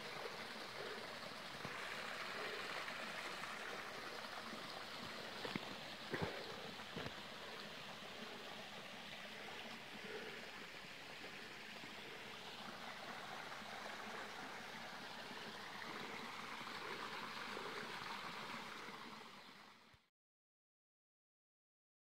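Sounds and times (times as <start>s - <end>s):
water rushing over rocks: 0.0s - 19.5s.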